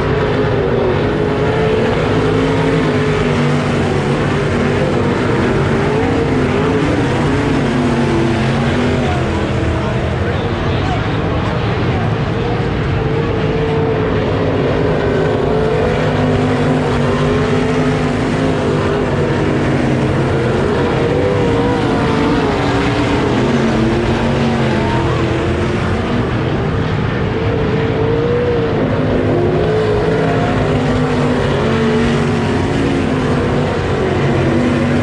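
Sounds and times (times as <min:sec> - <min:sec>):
race car engines accelerating: 0:00.0 - 0:35.0.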